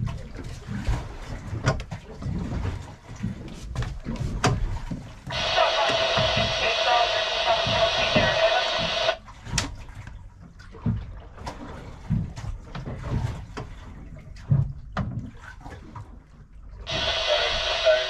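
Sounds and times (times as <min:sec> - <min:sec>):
water splashing against boat: 0:00.0 - 0:18.0.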